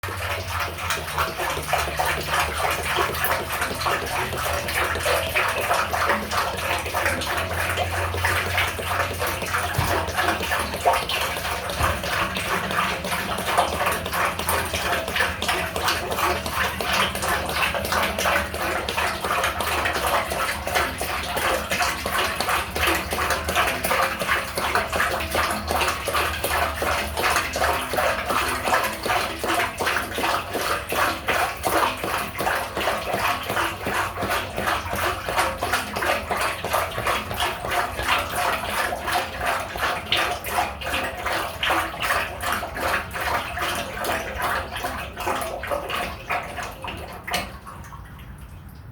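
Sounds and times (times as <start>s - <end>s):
grease pouring and splashing: 0.0s - 48.9s.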